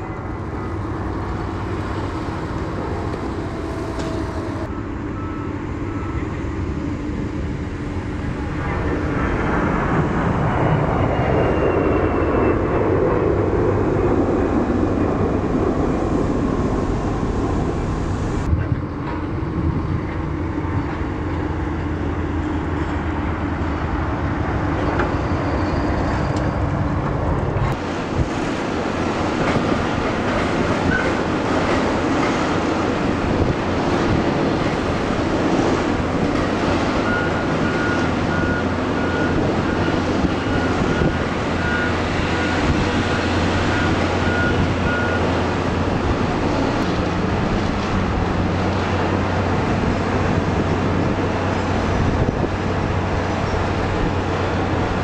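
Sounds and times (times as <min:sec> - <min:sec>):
jet engine rumble: 0:00.0 - 0:55.0.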